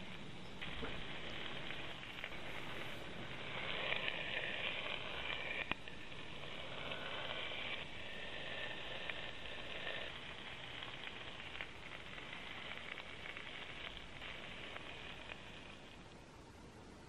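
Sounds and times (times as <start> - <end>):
chicken sizzling in hot fat: 0.0 - 16.5.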